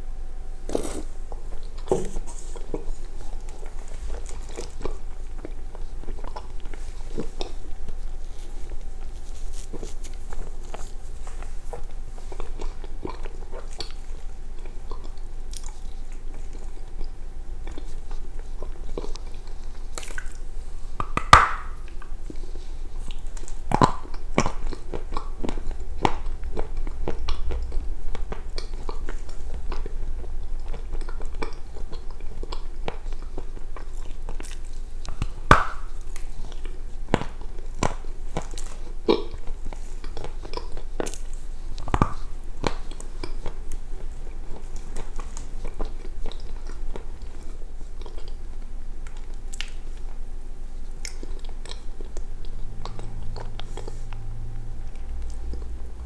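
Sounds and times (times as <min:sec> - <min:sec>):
crunchy biting and chewing: 0:00.6 - 0:56.0.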